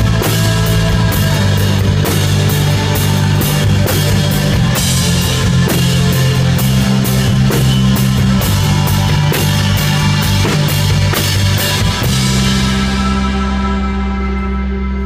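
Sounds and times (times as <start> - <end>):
drums and cymbals crashing: 0.0 - 13.8
electric guitar and bass: 0.0 - 15.0.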